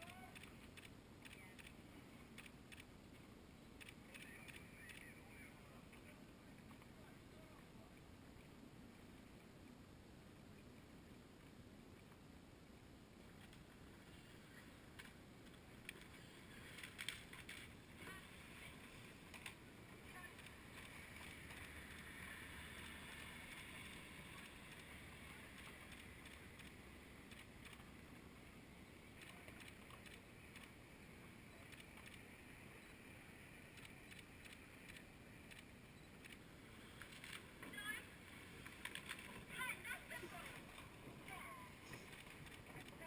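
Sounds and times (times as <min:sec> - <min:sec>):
faint water ambience: 0:00.0 - 0:43.0.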